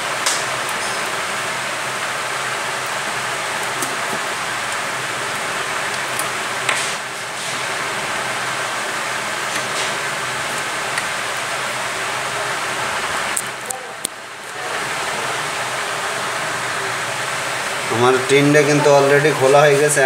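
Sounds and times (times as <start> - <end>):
fan blowing air: 0.0 - 20.0.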